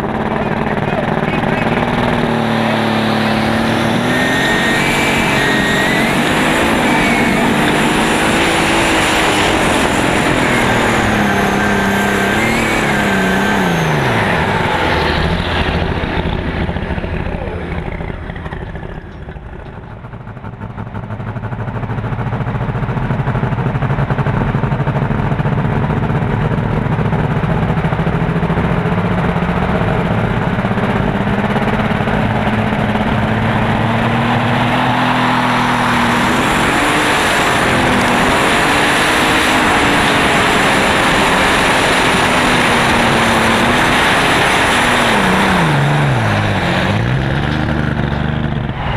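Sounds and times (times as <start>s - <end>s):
high whine: 0.0s - 22.4s, 23.6s - 48.9s
pulling tractor engine high revs: 0.0s - 48.9s.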